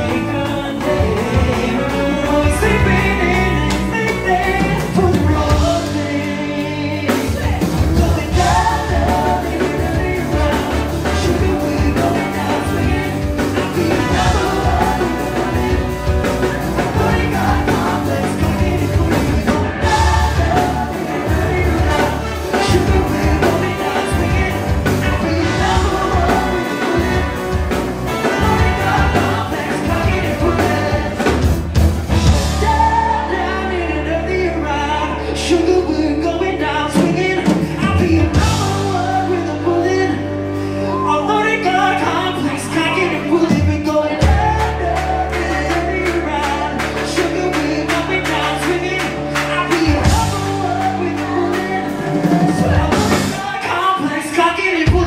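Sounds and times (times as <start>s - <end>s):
lead vocalist singing: 0.0s - 55.0s
live rock band playing: 0.0s - 55.0s.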